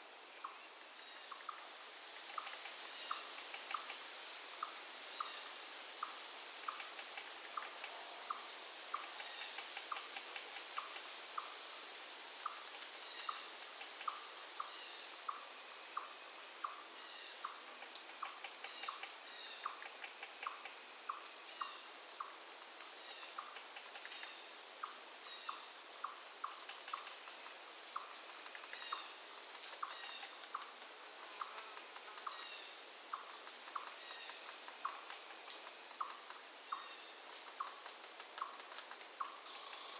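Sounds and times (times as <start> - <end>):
insect chirps: 0.0 - 39.9
cricket trill: 0.1 - 39.9.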